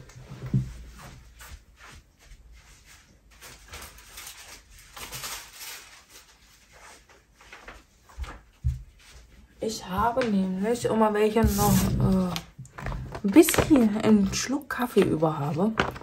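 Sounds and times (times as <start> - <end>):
paper rustling and shuffling: 0.5 - 16.0.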